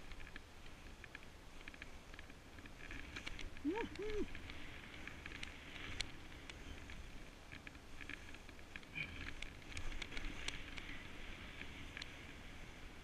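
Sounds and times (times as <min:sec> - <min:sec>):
snowboard gliding through powder: 0:00.0 - 0:13.0.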